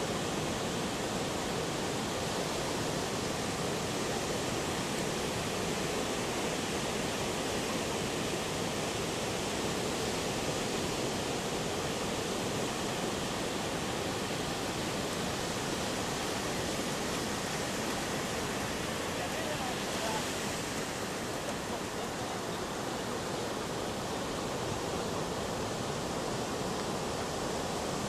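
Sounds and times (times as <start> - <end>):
waves breaking on beach: 0.0 - 28.0.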